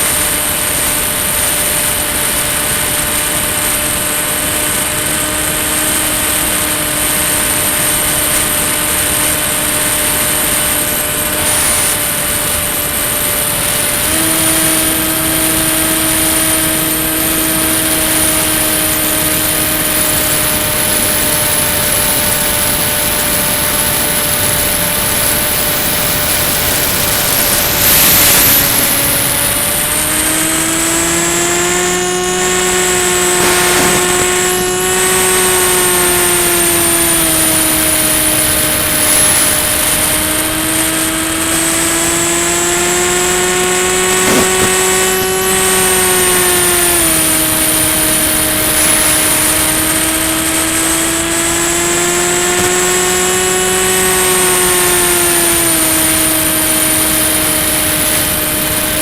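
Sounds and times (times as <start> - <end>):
model plane electric motor whine: 0.0 - 59.0.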